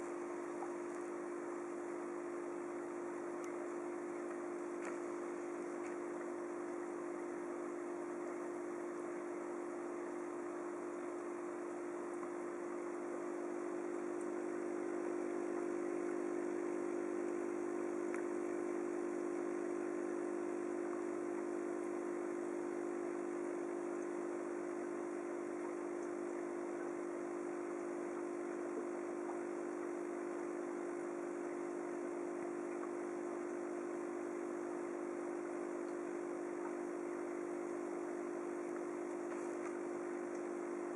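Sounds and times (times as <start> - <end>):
aquarium pump humming: 0.0 - 40.9.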